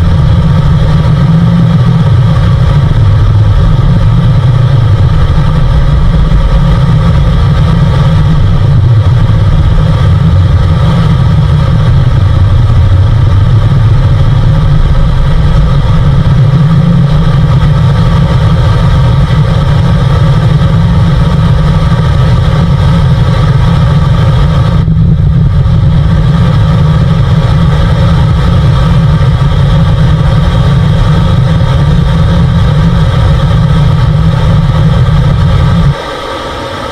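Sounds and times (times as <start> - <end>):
deep wavering rumble: 0.0 - 36.9
radio static hiss: 0.0 - 36.9.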